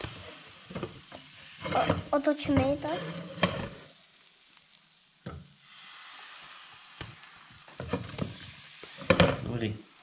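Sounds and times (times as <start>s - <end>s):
batter sizzling on griddle: 0.0s - 10.0s.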